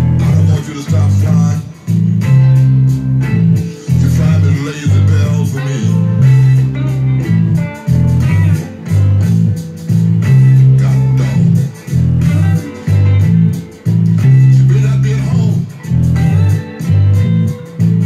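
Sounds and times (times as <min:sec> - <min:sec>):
electric bass guitar blues line: 0:00.0 - 0:18.0
electric guitar: 0:00.0 - 0:18.0.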